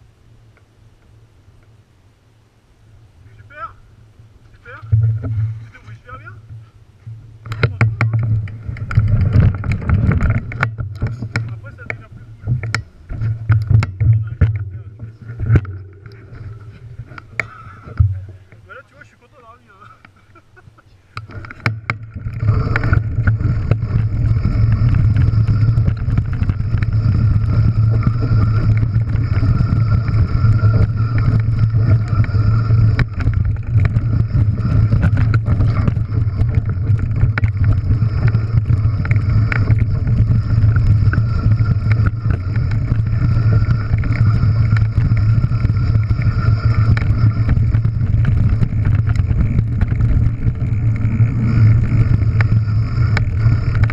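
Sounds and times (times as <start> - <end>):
stones and bike rattling: 4.5 - 53.9
wind on microphone: 7.1 - 18.6, 21.2 - 53.9
tyres rumbling over loose stones: 7.5 - 19.2, 21.2 - 53.9.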